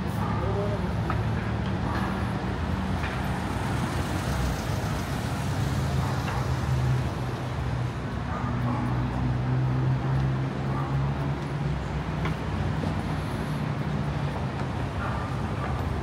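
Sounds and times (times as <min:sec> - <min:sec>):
road noise: 0:00.0 - 0:16.0
vehicle engines humming: 0:00.0 - 0:16.0.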